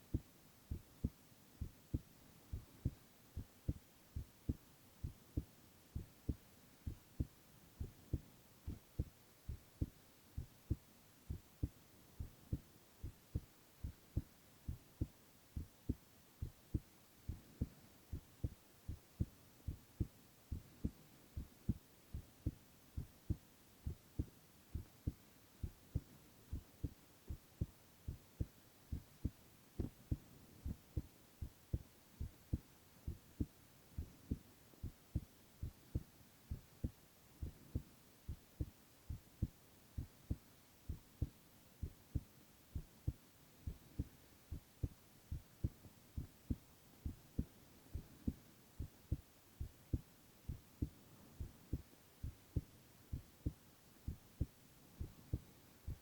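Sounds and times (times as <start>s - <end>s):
faint steady hiss: 0.0s - 56.0s
heartbeat thumps: 0.0s - 56.0s.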